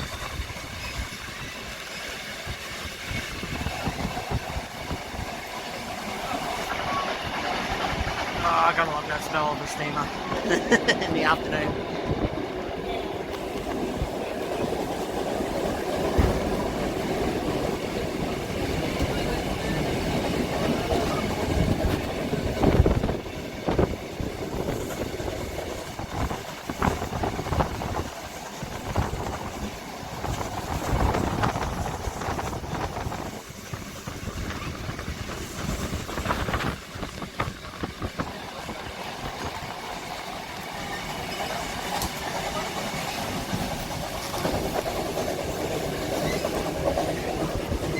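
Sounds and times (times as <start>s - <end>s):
train rumbling on track: 0.0s - 47.9s.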